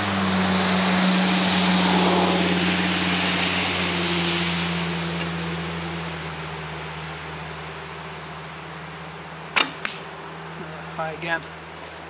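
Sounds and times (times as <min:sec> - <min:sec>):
engine drone with rushing noise: 0:00.0 - 0:12.0.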